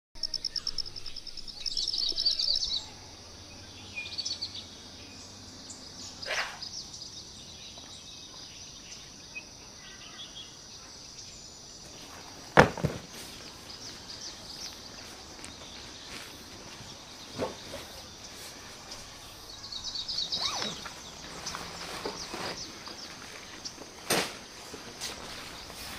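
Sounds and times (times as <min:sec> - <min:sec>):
birds chirping: 0:00.1 - 0:25.9
outdoor background noise: 0:00.1 - 0:25.9.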